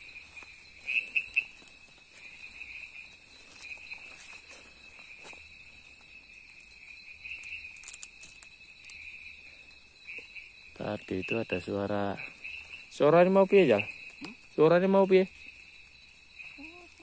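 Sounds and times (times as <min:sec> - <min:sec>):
crickets and insects trilling: 0:00.0 - 0:17.0
loud cricket chirps: 0:00.0 - 0:17.0.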